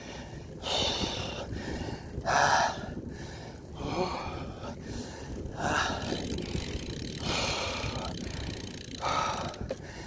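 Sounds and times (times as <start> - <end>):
cyclist breathing hard: 0.0 - 10.0
wind and road noise rumble: 0.0 - 10.0.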